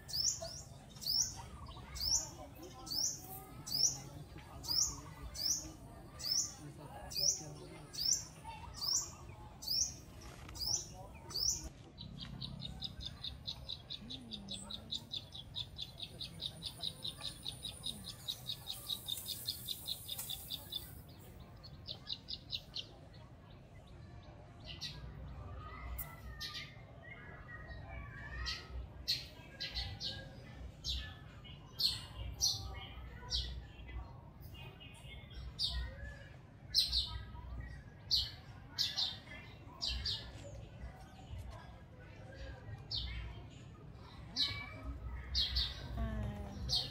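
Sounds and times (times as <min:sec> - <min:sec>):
birds chirping and trilling: 0:00.0 - 0:46.9.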